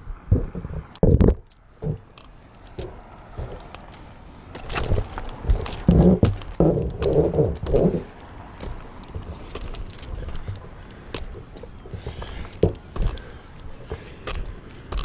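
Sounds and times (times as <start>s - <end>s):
metal hardware jingling and clinking: 1.4s - 15.0s.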